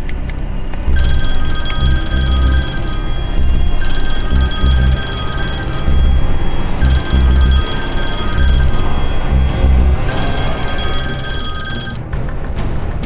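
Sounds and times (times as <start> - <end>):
background music with pulsing beat: 0.9 - 12.0
mobile phone ringtone: 1.0 - 12.0.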